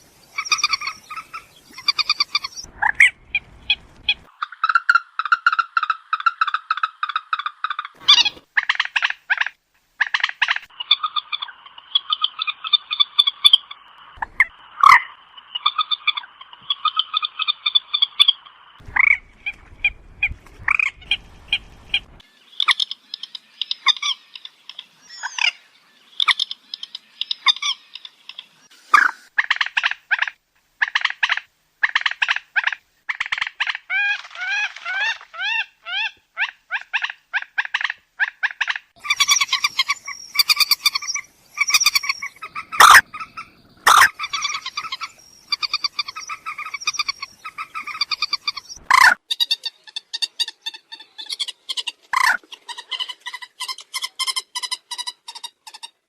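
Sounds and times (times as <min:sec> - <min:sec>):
moorhen croaking calls: 0:00.2 - 0:55.9.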